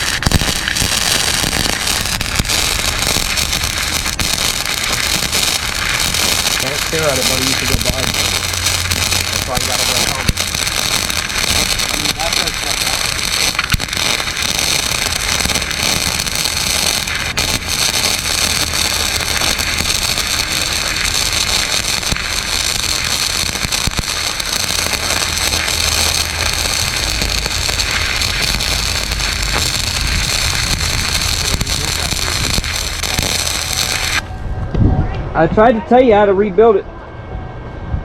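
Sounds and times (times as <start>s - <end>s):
welding arc crackling: 0.0s - 34.3s.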